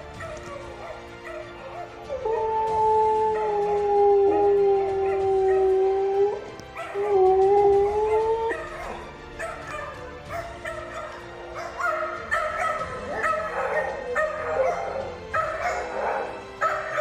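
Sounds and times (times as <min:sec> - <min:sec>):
husky howling: 0:00.0 - 0:17.0.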